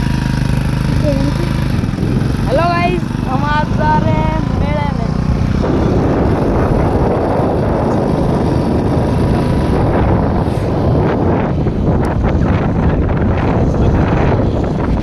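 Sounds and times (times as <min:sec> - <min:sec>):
vehicle and road noise: 0:00.0 - 0:15.0
wind buffeting microphone: 0:00.0 - 0:15.0.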